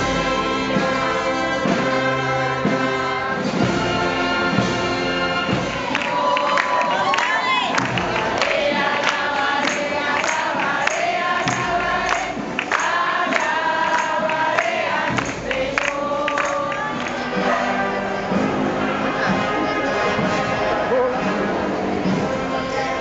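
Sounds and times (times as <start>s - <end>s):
choir singing a hymn: 0.0s - 23.0s
instrumental accompaniment with beat: 0.0s - 23.0s.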